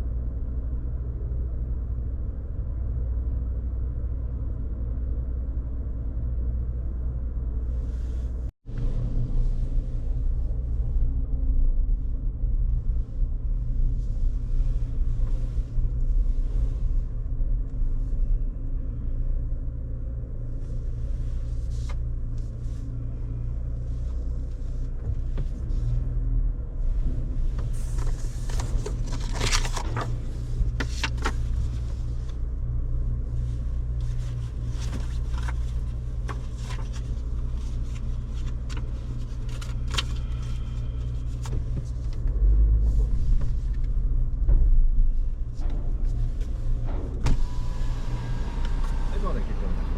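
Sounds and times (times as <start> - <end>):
vehicle rumble from inside: 0.0 - 49.9.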